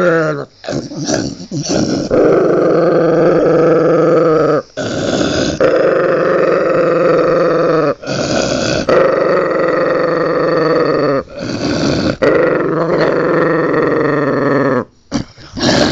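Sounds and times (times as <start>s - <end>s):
dog growling: 0.0s - 15.9s.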